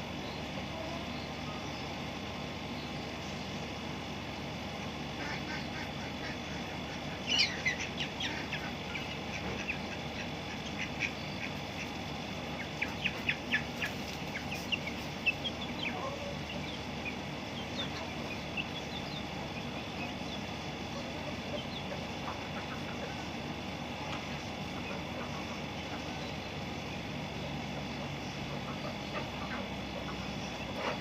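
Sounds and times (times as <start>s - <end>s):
steady background noise: 0.0s - 31.0s
ducks quacking: 5.1s - 31.0s.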